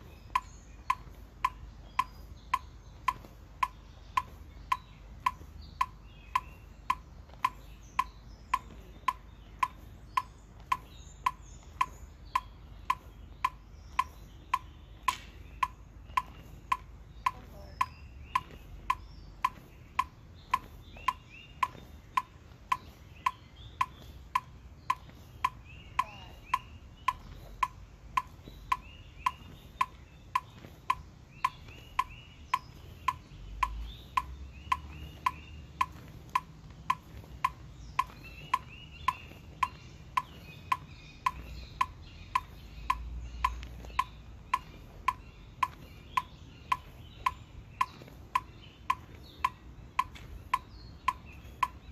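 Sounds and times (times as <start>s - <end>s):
metronome clicking: 0.3s - 51.9s.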